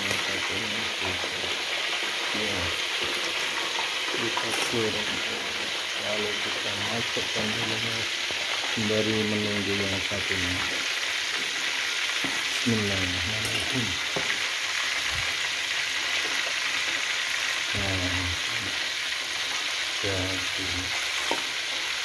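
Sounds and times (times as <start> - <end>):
fish sizzling in a wok: 0.0 - 22.0.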